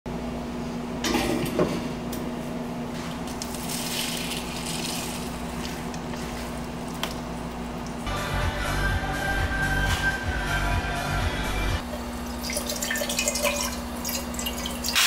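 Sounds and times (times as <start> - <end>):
low steady hum: 0.1 - 15.0.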